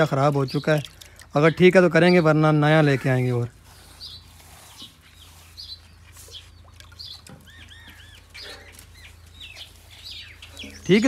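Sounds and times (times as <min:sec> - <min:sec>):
birds and chickens chirping: 0:00.0 - 0:11.0.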